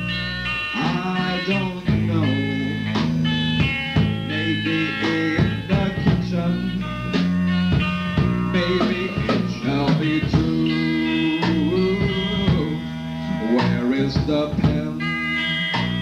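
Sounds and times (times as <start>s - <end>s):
drum kit: 0.0s - 16.0s
electric guitar bending notes: 0.0s - 16.0s.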